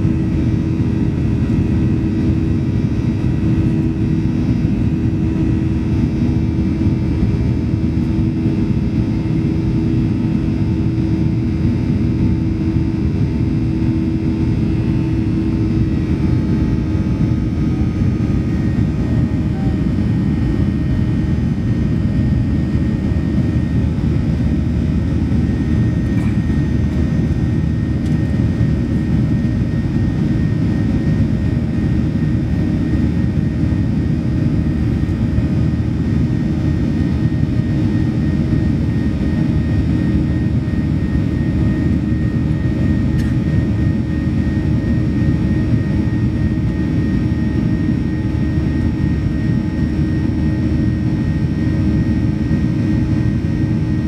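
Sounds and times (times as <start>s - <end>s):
jet engine roar in cabin: 0.0s - 54.0s.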